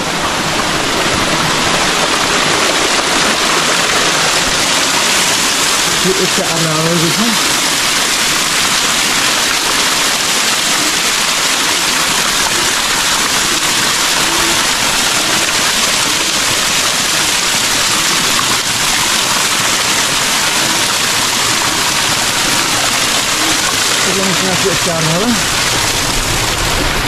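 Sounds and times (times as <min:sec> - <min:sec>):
water splashing onto stone: 0:01.3 - 0:27.0.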